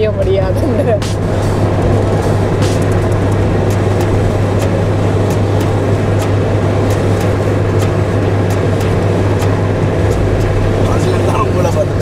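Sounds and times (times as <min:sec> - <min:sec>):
road and engine drone: 0:00.0 - 0:12.0.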